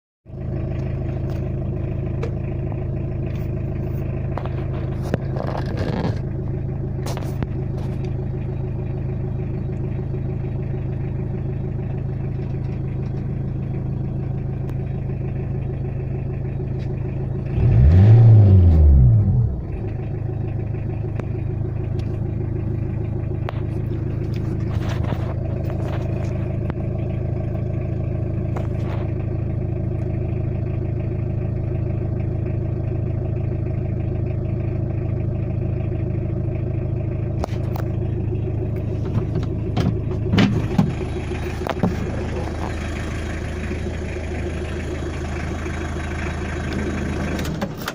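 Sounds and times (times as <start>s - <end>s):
diesel engine idling and revving: 0.2s - 47.9s.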